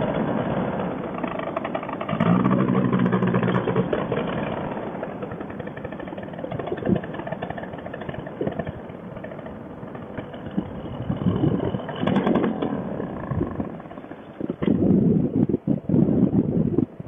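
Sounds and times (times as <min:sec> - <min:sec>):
paramotor engine running unevenly: 0:00.0 - 0:14.8.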